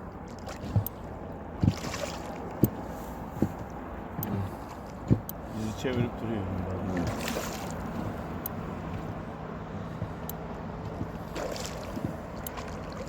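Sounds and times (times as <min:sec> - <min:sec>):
water sloshing around boat: 0:00.0 - 0:13.0.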